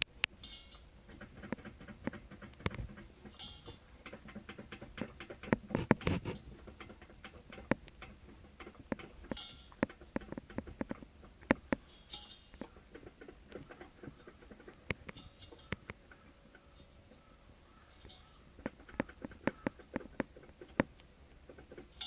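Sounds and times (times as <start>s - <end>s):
fan metallic clatter: 0.0s - 22.0s.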